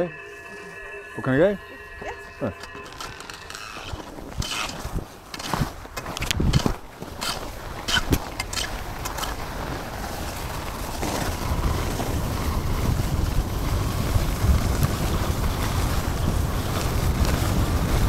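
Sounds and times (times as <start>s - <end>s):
wind rushing over microphone: 0.0s - 6.9s, 9.8s - 18.0s.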